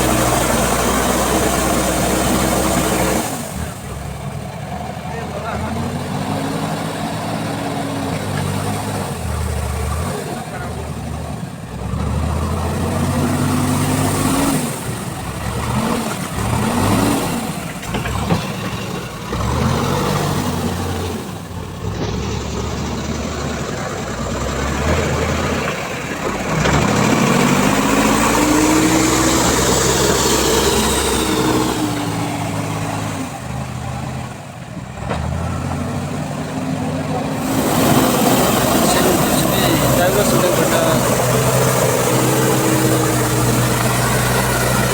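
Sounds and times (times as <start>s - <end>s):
heavy vehicle engine revving: 0.0s - 44.9s.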